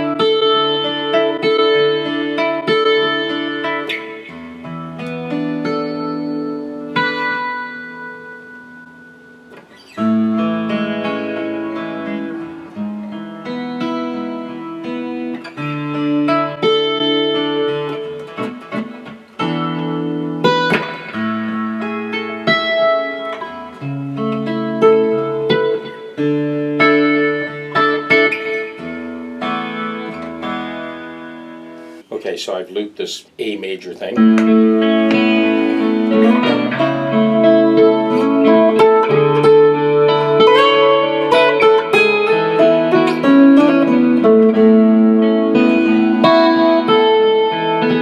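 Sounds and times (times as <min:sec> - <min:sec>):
acoustic guitar playing: 0:00.0 - 0:48.0.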